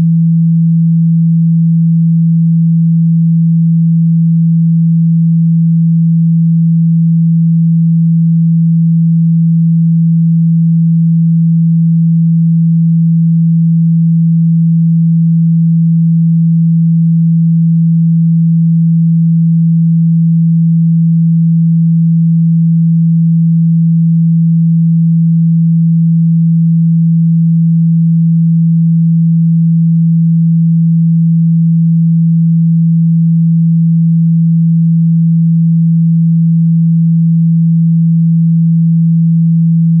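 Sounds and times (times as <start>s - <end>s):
steady low sine tone: 0.0s - 40.0s.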